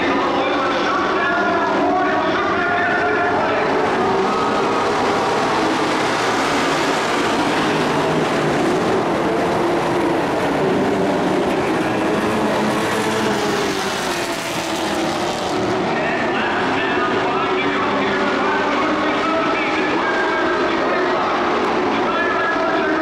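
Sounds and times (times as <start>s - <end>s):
race truck engines droning: 0.0s - 23.0s.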